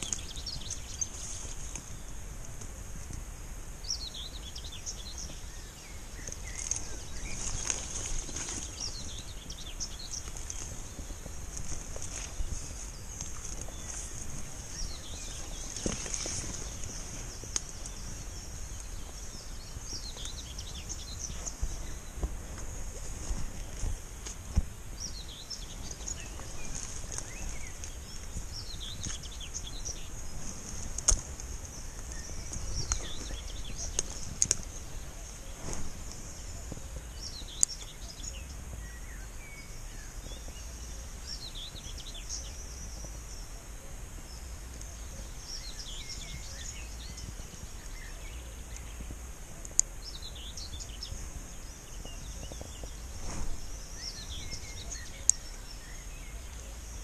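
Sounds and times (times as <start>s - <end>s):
birds chirping: 0.0s - 57.0s
steady high hiss: 0.0s - 57.0s
wind rumble on microphone: 0.0s - 57.0s.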